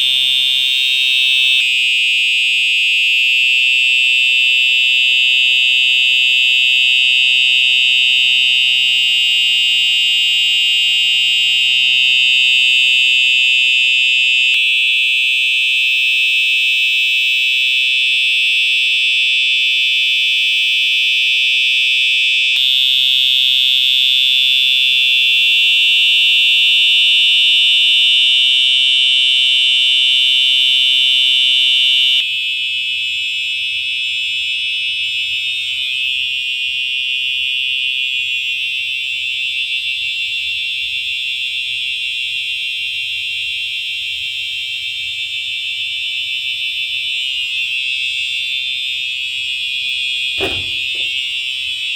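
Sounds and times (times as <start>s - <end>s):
fire alarm horn tone: 0.0s - 51.9s.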